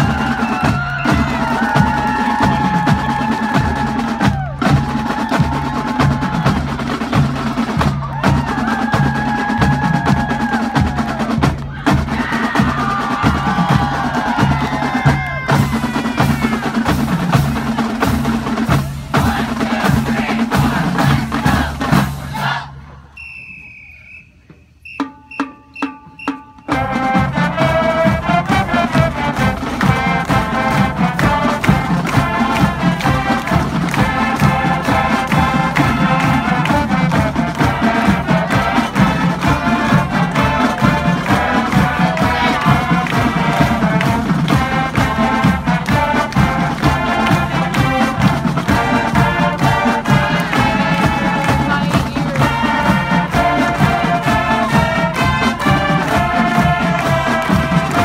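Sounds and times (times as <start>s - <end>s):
drum beat: 0.0s - 23.0s, 24.9s - 58.0s
marching band playing: 0.0s - 58.0s.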